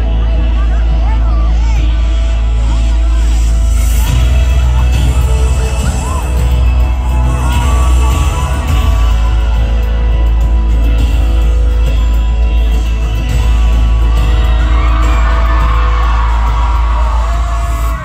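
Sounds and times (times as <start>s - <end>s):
audience screaming and whooping: 0.0s - 18.0s
loud music with heavy bass: 0.0s - 18.0s.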